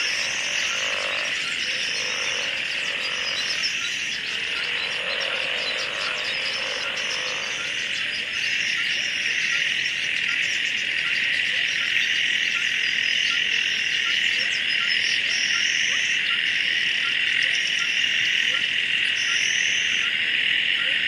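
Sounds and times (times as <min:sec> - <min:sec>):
frogs croaking: 0:00.0 - 0:21.0
high insect chorus: 0:00.0 - 0:21.0.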